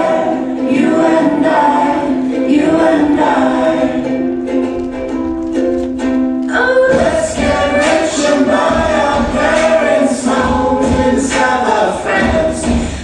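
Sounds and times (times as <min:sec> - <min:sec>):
pop song with choir-like voices: 0:00.0 - 0:04.6, 0:06.5 - 0:13.0.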